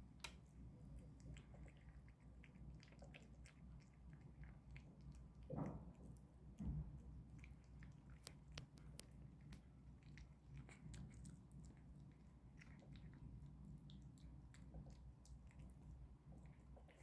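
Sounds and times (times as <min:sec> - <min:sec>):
kitten chewing food: 0:00.0 - 0:17.0.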